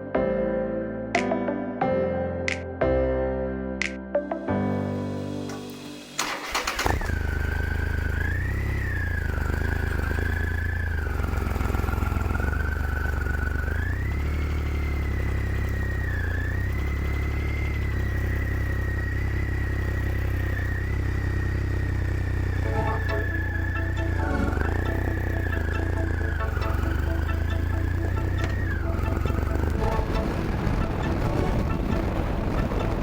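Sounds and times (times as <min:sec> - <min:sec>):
motorcycle engine running: 0:06.5 - 0:33.0.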